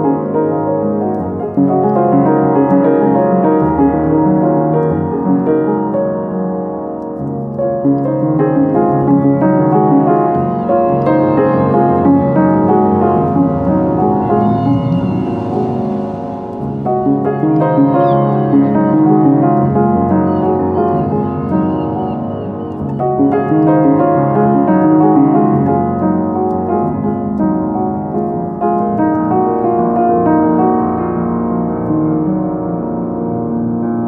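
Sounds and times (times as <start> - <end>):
instrumental piano music: 0.0 - 34.0.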